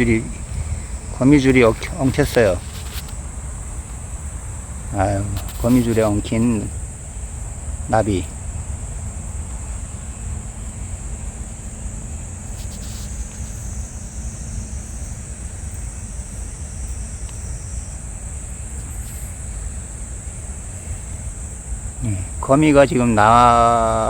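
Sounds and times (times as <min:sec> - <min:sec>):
faint rustles: 0:00.0 - 0:08.5, 0:12.3 - 0:23.7
insects droning: 0:00.0 - 0:24.0
wind buffeting microphone: 0:00.0 - 0:24.0.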